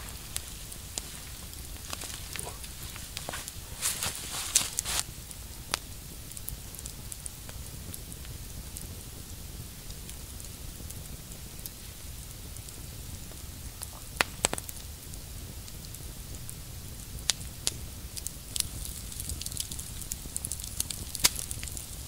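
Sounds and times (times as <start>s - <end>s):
burning wood popping: 0.0s - 22.0s
campfire crackling: 0.0s - 22.0s.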